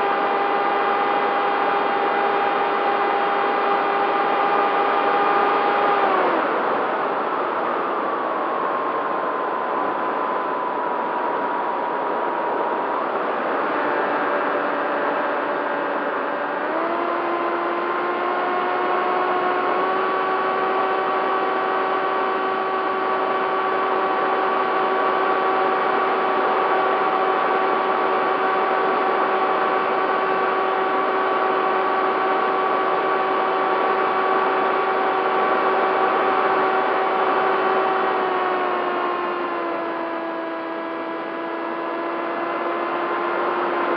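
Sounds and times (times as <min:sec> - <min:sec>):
electric motor and propeller whine: 0:00.0 - 0:43.9.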